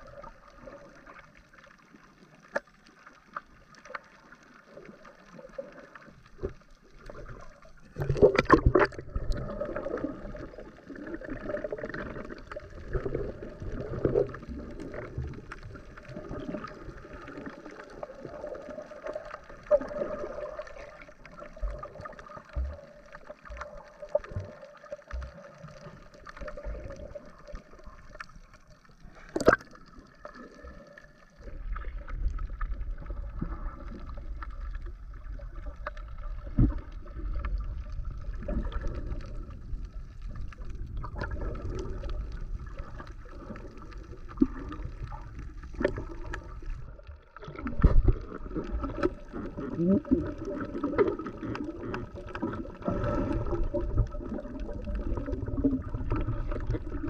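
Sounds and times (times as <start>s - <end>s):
low underwater rumble: 0.0s - 57.0s
water swirling and gurgling: 0.0s - 57.0s.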